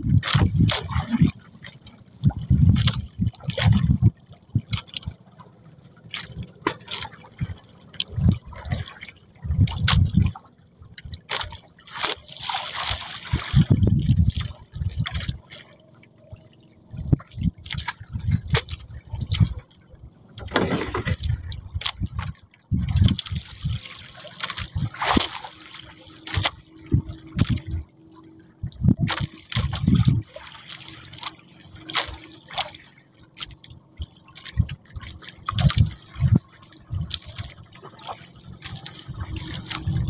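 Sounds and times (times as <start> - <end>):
water slapping boat hull: 0.0 - 40.0
water splashes: 0.0 - 40.0.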